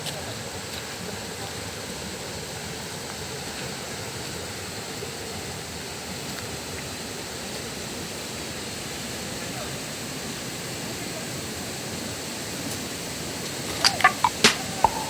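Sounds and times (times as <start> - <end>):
waterfall rushing: 0.3 - 15.0.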